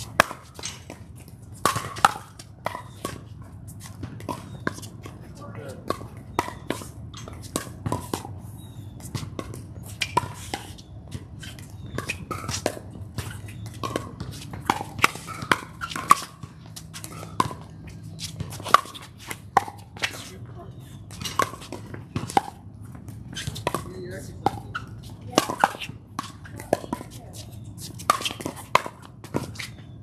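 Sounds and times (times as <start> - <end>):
ball bouncing on hard court: 0.0 - 30.0.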